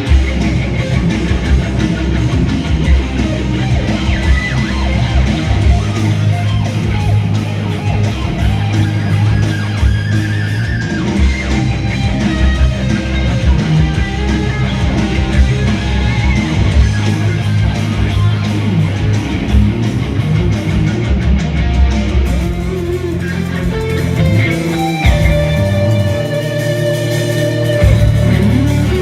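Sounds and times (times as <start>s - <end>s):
bass guitar: 0.0s - 29.0s
drums: 0.0s - 29.0s
electric guitar: 0.0s - 29.0s.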